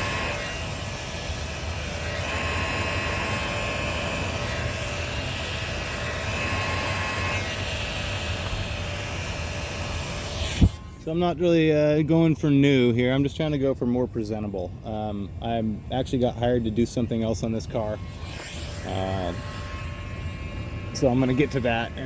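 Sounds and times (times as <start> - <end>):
heat gun fan blowing: 0.0 - 22.0.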